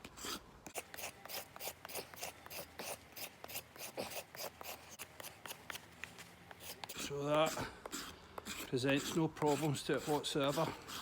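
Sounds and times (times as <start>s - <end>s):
knife scraping wood: 0.0s - 11.0s.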